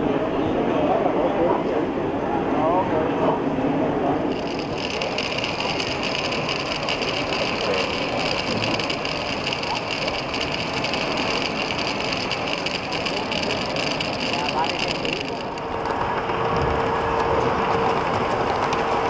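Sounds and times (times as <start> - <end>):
conveyor loader rattle and whine: 2.7 - 19.0.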